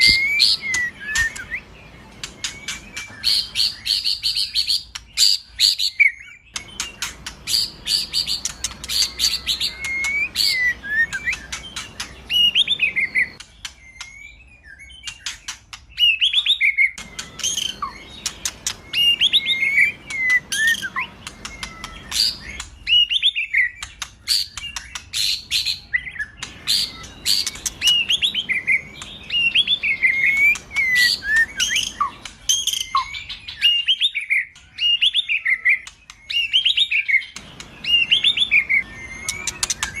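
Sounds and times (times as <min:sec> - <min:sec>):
bird singing: 0:00.0 - 0:40.0.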